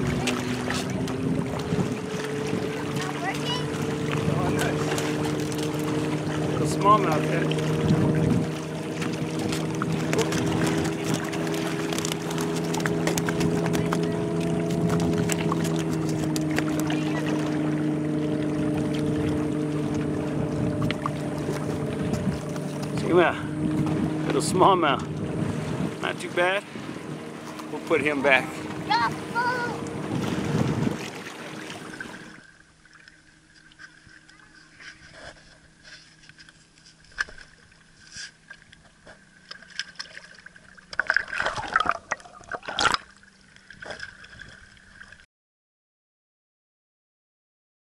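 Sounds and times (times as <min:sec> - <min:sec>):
light water splashes: 0:00.0 - 0:45.2
motorboat engine droning: 0:00.0 - 0:45.2.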